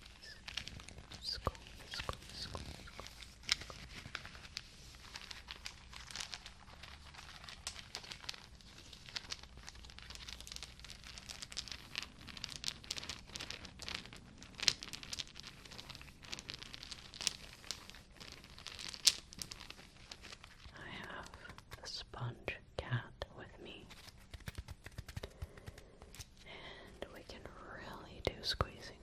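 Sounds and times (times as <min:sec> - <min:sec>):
crinkling material being handled: 0:00.0 - 0:21.8, 0:23.7 - 0:27.4.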